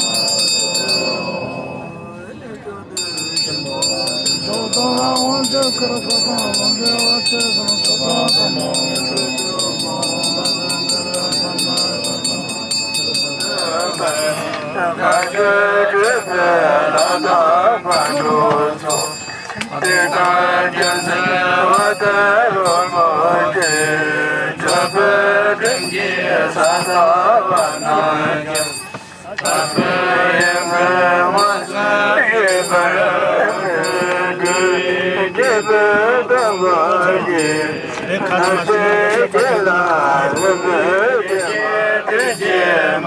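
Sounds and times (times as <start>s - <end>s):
monks chanting together: 0.0s - 2.1s, 3.1s - 43.0s.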